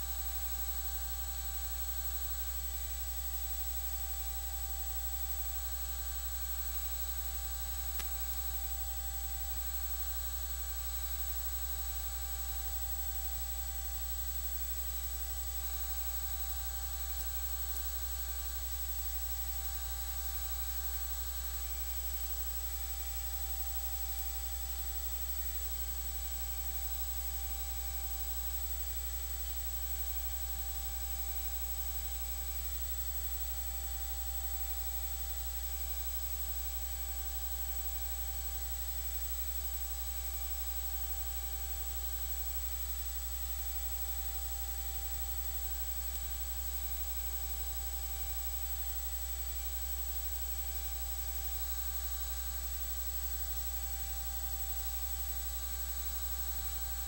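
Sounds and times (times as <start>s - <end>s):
electrical hum with hiss: 0.0s - 57.0s
faint high whine: 0.0s - 57.0s.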